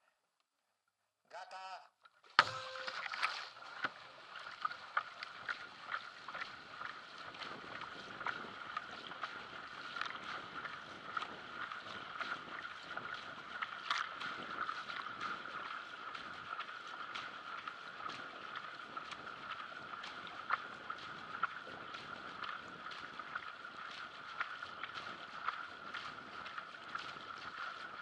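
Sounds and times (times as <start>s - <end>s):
paddle splashes: 2.2s - 28.0s
water rushing along hull: 2.3s - 28.0s.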